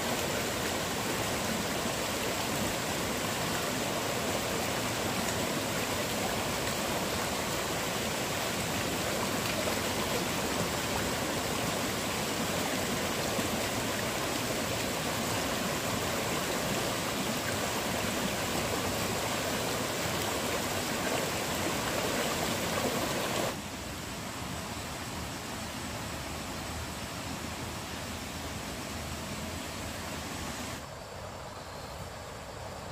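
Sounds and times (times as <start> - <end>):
stream rushing over rocks: 0.0 - 31.4.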